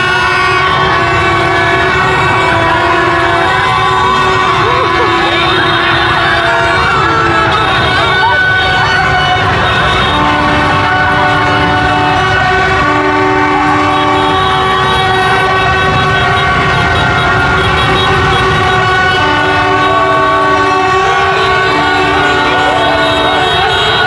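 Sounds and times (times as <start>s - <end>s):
low horn blasts: 0.0s - 24.0s
low traffic rumble: 0.0s - 24.0s
many horns sounding: 0.0s - 24.0s.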